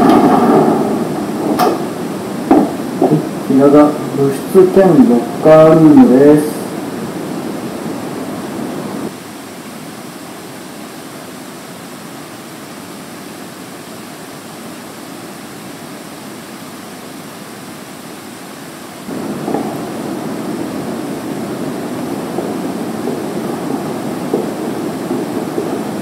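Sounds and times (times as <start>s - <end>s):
room tone hiss: 0.0s - 26.0s.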